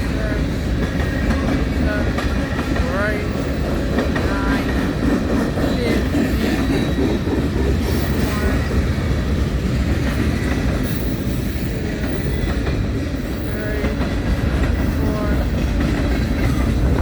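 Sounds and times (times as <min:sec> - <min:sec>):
clickety-clack over rail joints: 0:00.0 - 0:17.0
freight train wheels rumbling: 0:00.0 - 0:17.0.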